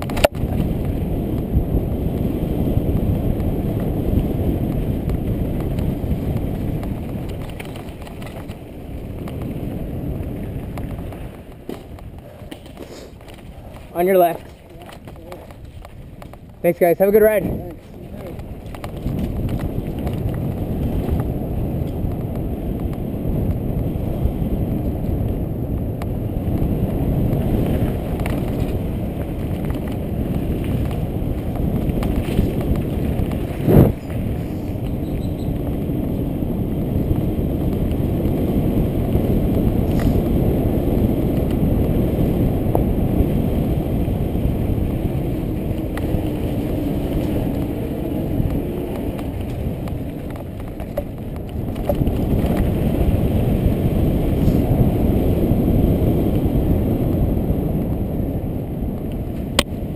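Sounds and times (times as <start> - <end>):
tyres rolling over dirt: 0.0 - 22.6, 26.6 - 56.0
wind rumble on microphone: 0.0 - 59.9.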